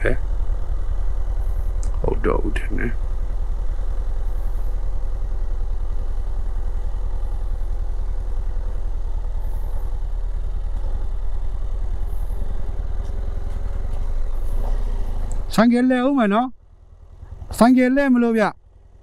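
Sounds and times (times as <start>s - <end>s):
motorcycle engine at low speed: 0.0s - 19.0s.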